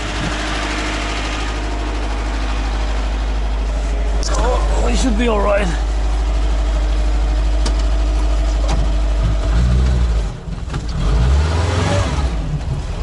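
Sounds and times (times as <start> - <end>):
engine idling heard from cab: 0.0 - 11.0.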